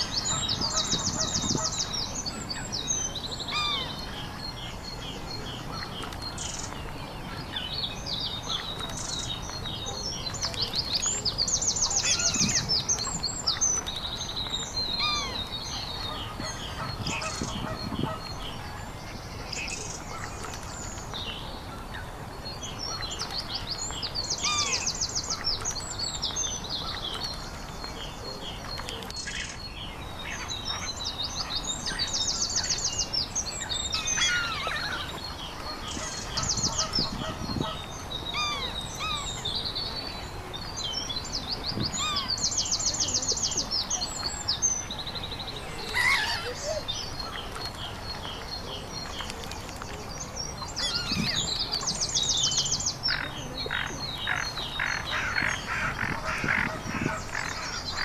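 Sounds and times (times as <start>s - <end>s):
wild birds singing: 0.0s - 58.0s.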